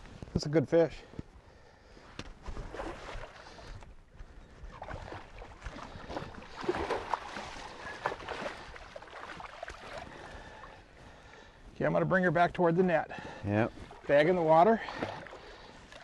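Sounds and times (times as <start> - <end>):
water splashing against boat: 2.2 - 11.6, 12.4 - 16.0.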